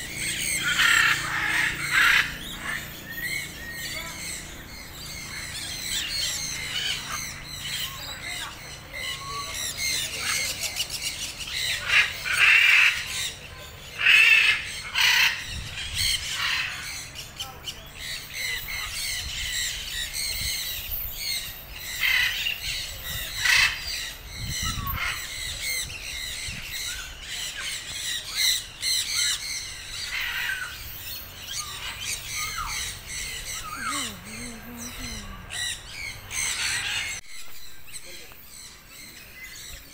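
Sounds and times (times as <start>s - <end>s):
parrots squawking: 0.0s - 17.1s, 18.0s - 37.5s.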